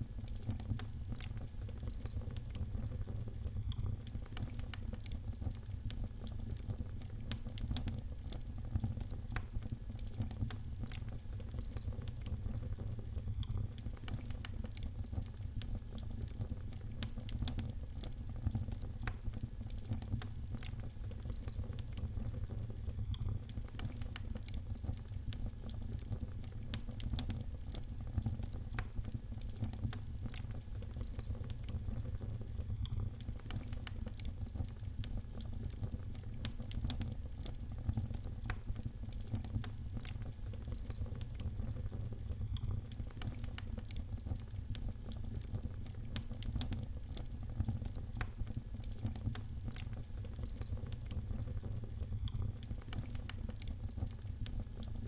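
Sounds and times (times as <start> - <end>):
fire crackling and popping: 0.1 - 55.0.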